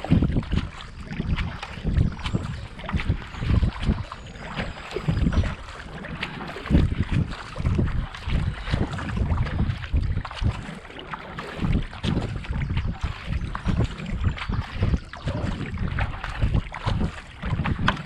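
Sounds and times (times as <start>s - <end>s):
kayak paddle strokes in water: 0.0s - 18.0s
water rushing along hull: 0.0s - 18.0s.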